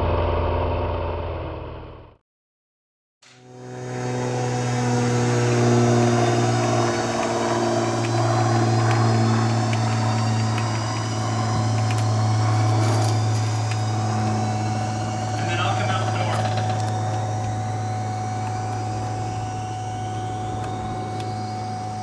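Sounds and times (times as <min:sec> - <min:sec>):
door motor humming: 0:03.3 - 0:22.0.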